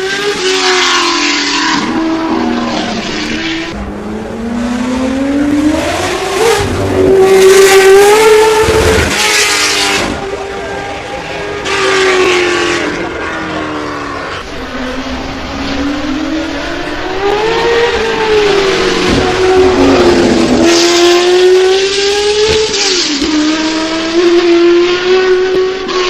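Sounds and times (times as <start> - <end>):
racing car engine at high revs: 0.0 - 26.0.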